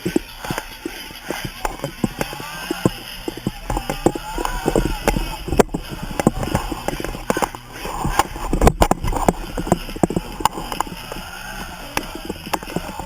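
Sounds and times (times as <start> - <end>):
people shouting: 0.0 - 8.6, 9.3 - 13.0.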